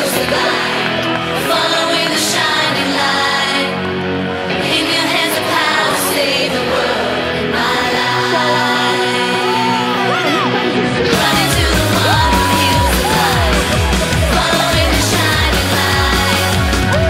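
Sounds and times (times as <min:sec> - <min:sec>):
background song with singing: 0:00.0 - 0:17.0.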